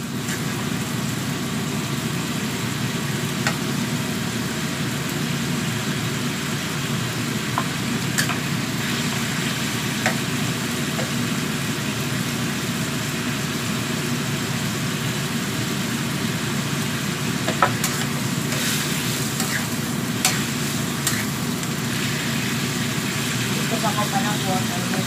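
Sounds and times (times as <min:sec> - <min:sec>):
vegetables sizzling in a wok: 0:00.0 - 0:25.0.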